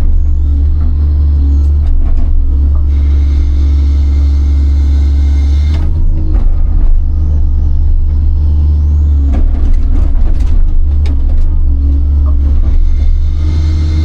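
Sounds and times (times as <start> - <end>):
excavator diesel engine rumbling: 0.0 - 14.0.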